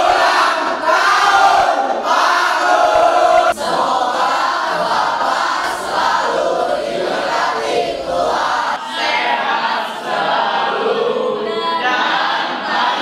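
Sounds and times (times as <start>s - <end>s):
students singing in unison: 0.0s - 13.0s.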